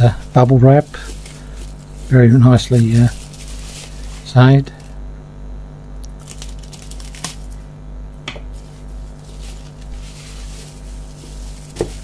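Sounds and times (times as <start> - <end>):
bubble wrap rustling: 0.0 - 4.9, 6.1 - 7.7, 8.4 - 12.0
pulsing low hum: 0.0 - 12.0.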